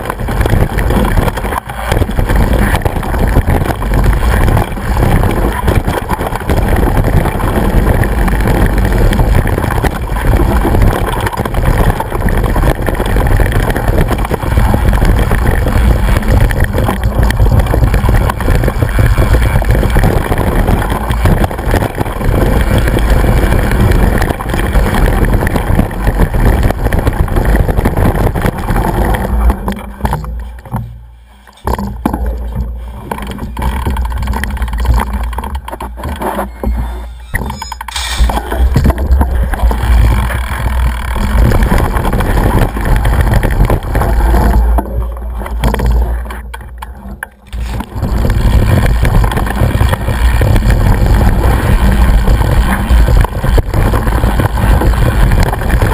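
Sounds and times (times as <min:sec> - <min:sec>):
wind buffeting microphone: 0:00.0 - 0:30.8, 0:38.2 - 0:46.3, 0:47.5 - 0:55.9
bike rattling over rough track: 0:00.0 - 0:55.9.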